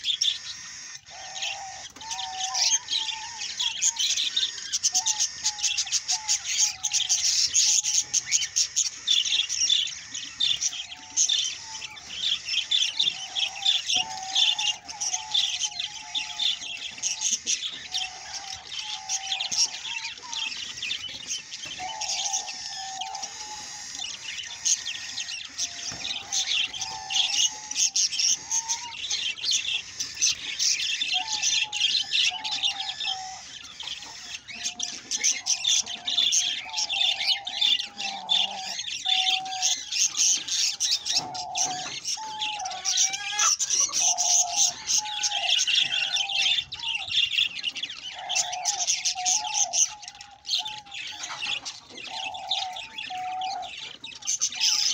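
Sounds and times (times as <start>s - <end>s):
budgerigars chirping: 0.0s - 54.9s.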